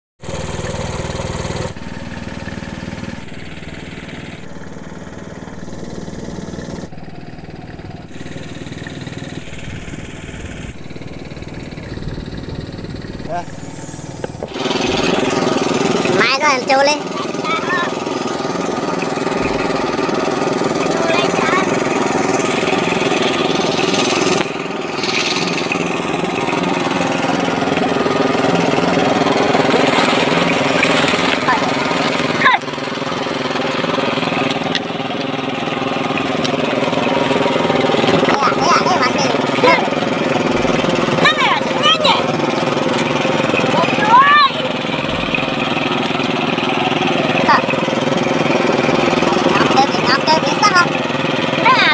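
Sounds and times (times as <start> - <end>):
boat engine running: 0.2 - 51.9.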